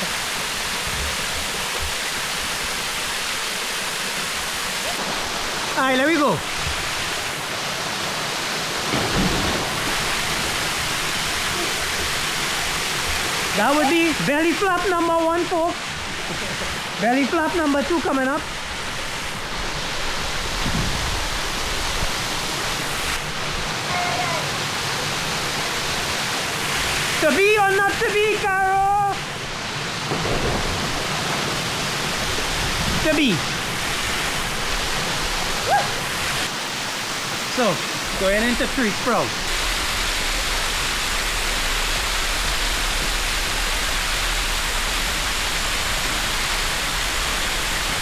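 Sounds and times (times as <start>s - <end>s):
waterfall roaring into pool: 0.0s - 48.0s.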